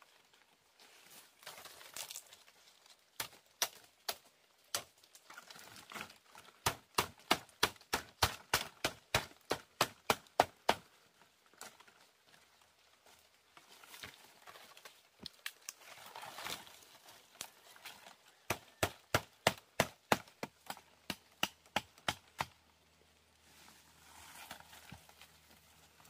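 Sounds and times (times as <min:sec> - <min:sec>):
palm fronds rustling: 0:00.0 - 0:26.0.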